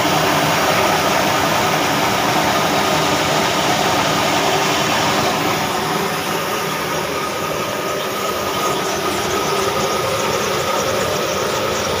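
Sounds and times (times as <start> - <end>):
diesel engine running: 0.0 - 12.0
milling machinery clatter: 0.0 - 12.0.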